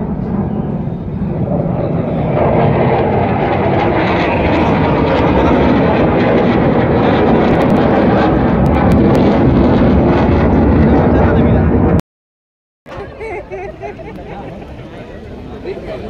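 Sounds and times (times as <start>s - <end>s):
jet engine roar overhead: 0.0s - 12.0s, 12.9s - 16.0s.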